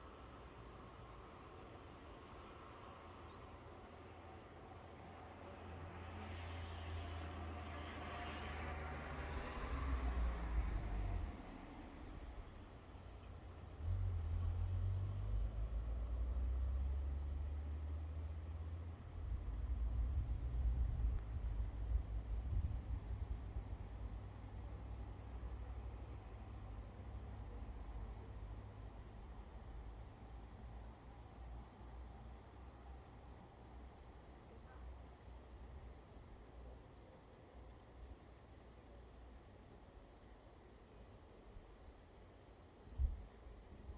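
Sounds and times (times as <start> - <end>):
cricket chirping: 0.0 - 7.2, 7.8 - 43.9.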